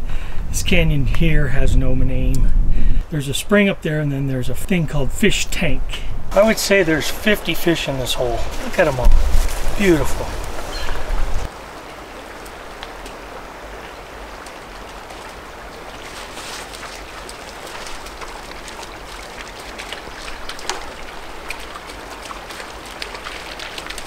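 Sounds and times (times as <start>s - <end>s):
creek running over rocks: 3.5s - 24.0s.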